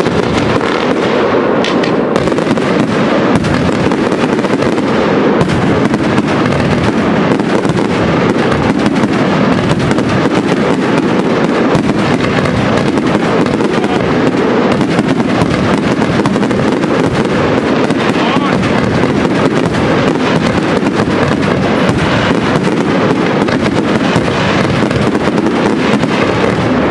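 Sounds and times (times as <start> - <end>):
fireworks bursting in barrage: 0.0 - 26.9.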